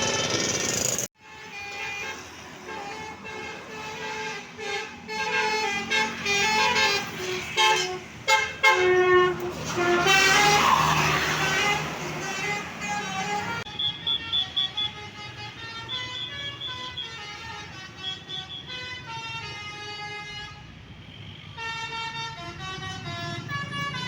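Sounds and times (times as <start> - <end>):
musical air horn playing a tune: 1.2 - 20.6.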